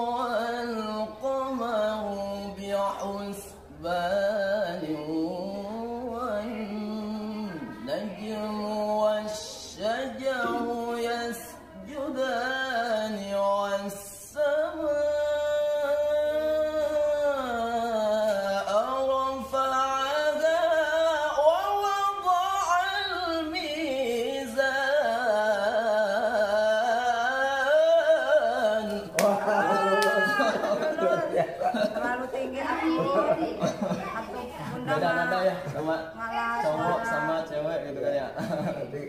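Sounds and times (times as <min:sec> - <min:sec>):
man chanting recitation: 0:00.0 - 0:32.3, 0:34.5 - 0:38.8.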